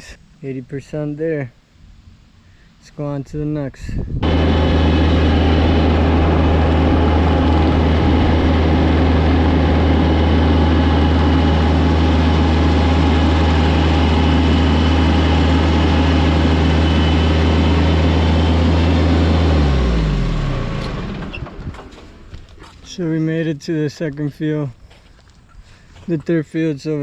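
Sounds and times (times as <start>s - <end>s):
engine droning: 4.2s - 27.0s.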